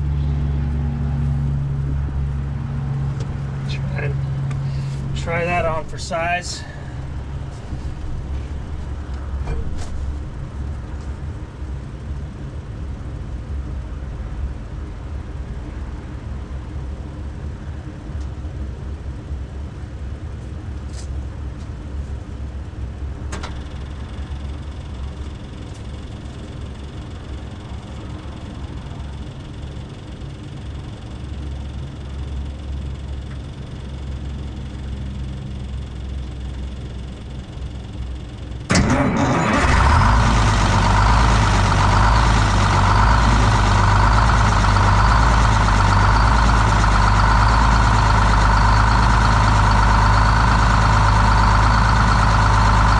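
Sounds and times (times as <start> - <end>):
diesel engine running steadily: 0.0 - 52.9.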